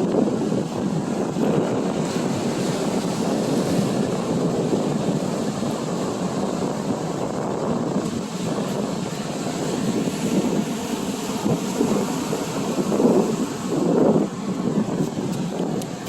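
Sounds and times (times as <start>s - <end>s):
ocean surf washing in: 0.0s - 16.0s
wind on microphone: 0.0s - 16.0s.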